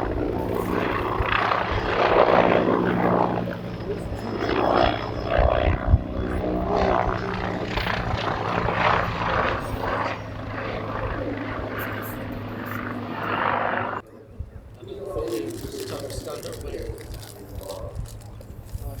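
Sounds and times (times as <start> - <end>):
helicopter rotor and turbines: 0.0 - 19.0.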